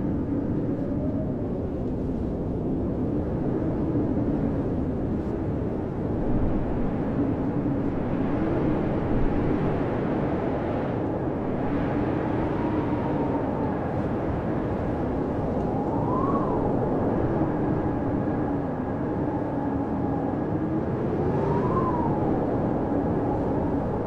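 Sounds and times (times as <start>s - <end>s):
blizzard wind howling: 0.0s - 24.0s.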